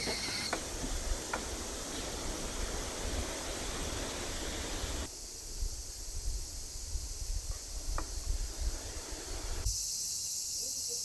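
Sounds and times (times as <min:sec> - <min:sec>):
wind rumbling on microphone: 0:00.5 - 0:09.7.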